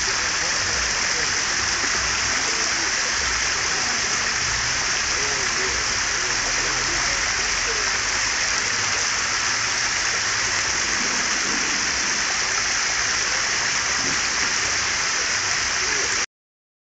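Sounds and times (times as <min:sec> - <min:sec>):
sea surf washing on beach: 0:00.0 - 0:16.2.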